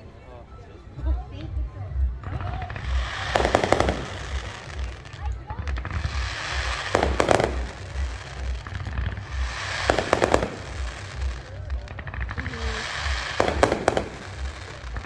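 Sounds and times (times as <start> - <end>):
fireworks bangs and crackles: 0.2 - 15.0
crackling hiss: 1.0 - 15.0.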